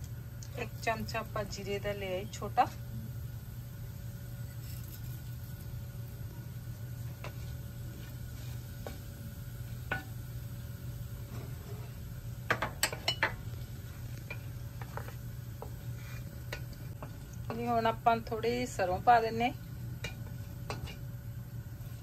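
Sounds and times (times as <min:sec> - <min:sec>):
seeds frying in oil: 0:00.0 - 0:22.0.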